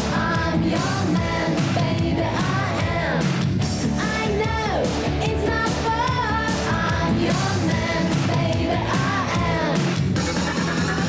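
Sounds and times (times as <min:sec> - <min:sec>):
woman singing lead: 0:00.0 - 0:10.1
drum kit: 0:00.0 - 0:11.0.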